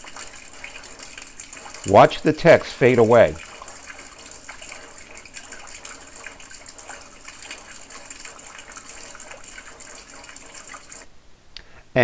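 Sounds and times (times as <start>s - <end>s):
rainwater splashing into a bucket: 0.0s - 11.1s.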